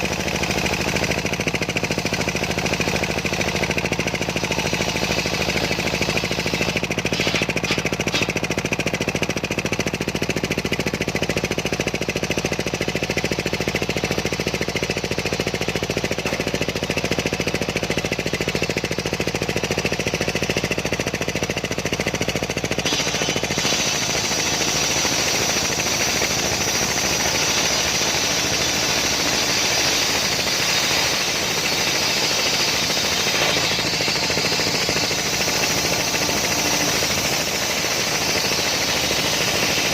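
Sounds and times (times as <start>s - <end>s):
circular sawmill cutting log: 0.0s - 39.9s.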